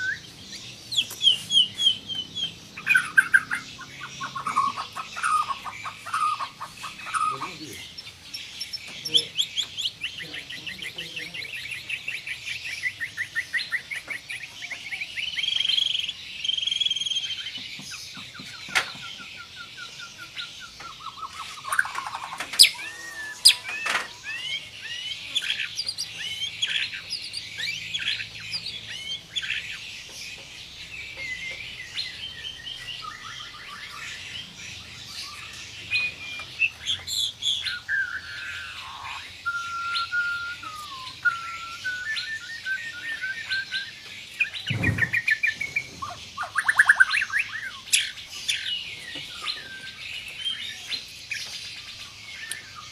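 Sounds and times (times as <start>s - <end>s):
bird singing trills and whistles: 0.0s - 52.9s.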